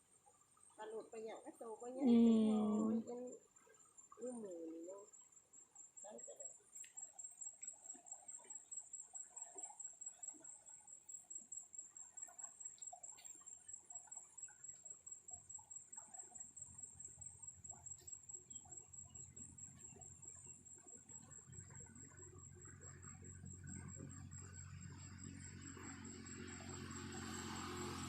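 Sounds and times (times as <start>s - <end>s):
high-pitched insect trill: 2.0s - 28.0s.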